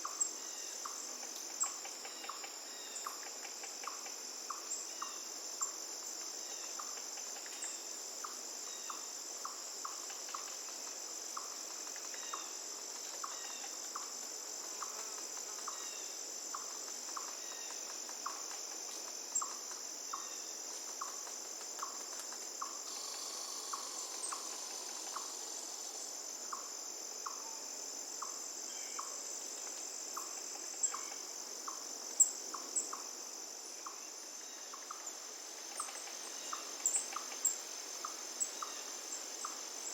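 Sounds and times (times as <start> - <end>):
insects trilling drone: 0.0 - 39.9.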